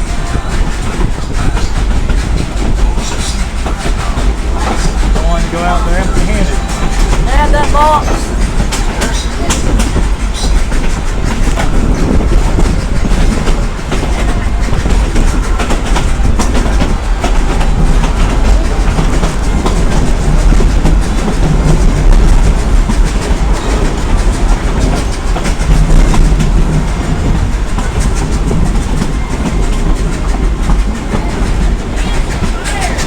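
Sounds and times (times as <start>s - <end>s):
steam train rumbling: 0.0s - 33.0s
wheels clicking over rail joints: 0.0s - 33.0s.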